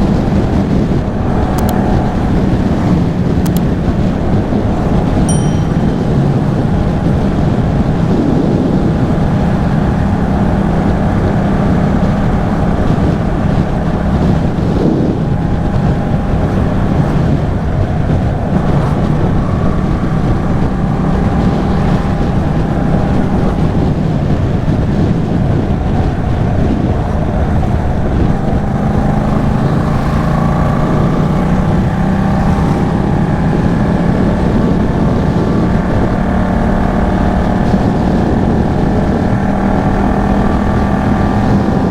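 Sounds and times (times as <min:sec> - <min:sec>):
motorcycle engine revving: 0:00.0 - 0:41.9
wind noise on microphone: 0:00.0 - 0:41.9.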